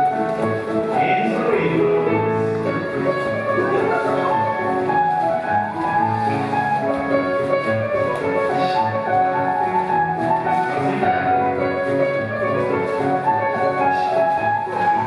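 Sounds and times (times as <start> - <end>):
country dance music: 0.0 - 15.0.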